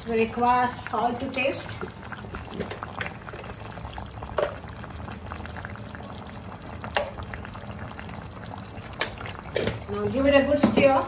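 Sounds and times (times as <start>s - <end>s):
gravy simmering and popping: 0.0s - 11.0s.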